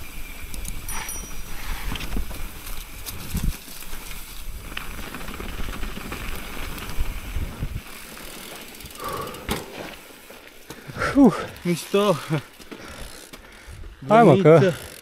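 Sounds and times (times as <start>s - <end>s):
bike rattling: 0.0s - 15.0s
bike tyres crunching on gravel: 0.0s - 15.0s.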